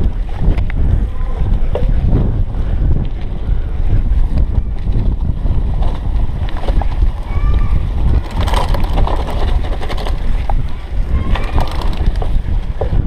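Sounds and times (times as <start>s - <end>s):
bike tyres rumbling: 0.0s - 13.0s
rattles over rough ground: 0.0s - 13.0s
wind buffeting microphone: 0.0s - 13.0s.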